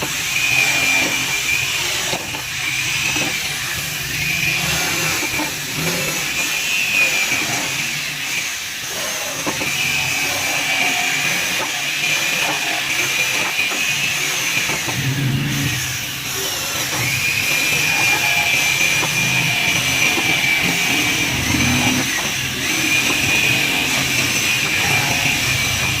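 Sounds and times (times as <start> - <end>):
power tool motor whining: 0.0 - 26.0.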